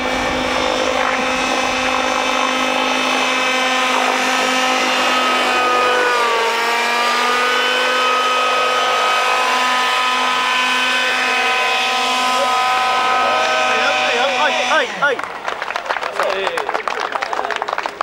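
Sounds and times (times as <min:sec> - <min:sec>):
model helicopter engine whine: 0:00.0 - 0:17.4
helicopter rotor noise: 0:00.0 - 0:18.0.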